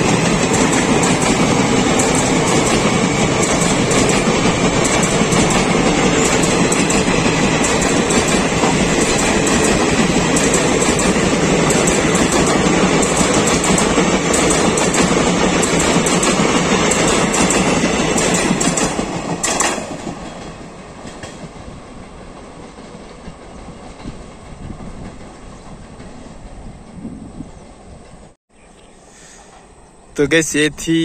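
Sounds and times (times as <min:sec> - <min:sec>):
clickety-clack over rail joints: 0:00.0 - 0:27.2
train wheels rumbling on rail: 0:00.0 - 0:28.4
distant train noise: 0:00.0 - 0:31.0.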